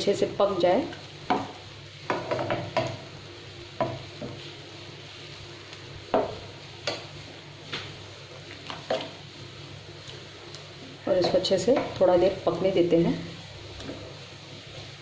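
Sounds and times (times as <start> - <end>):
steady sizzle: 0.0 - 15.0.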